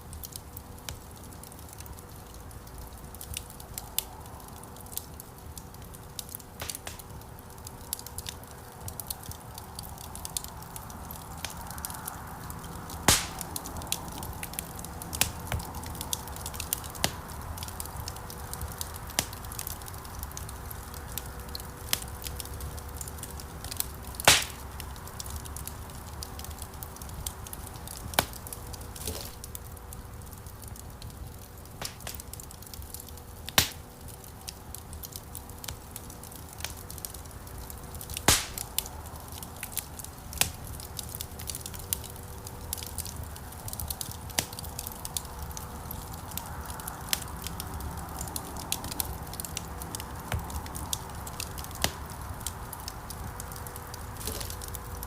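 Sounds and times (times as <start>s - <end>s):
wood fire crackling: 0.0s - 55.0s
sharp pops from fire: 0.1s - 55.0s.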